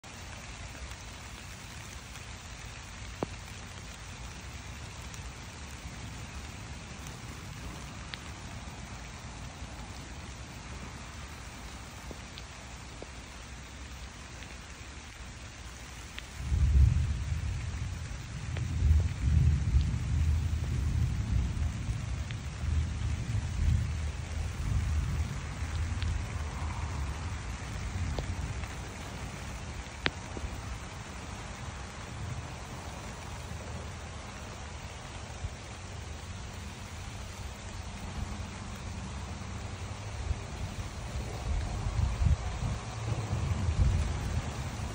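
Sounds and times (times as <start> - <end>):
steady rain on plants: 0.0 - 44.9
water drips: 0.0 - 44.9.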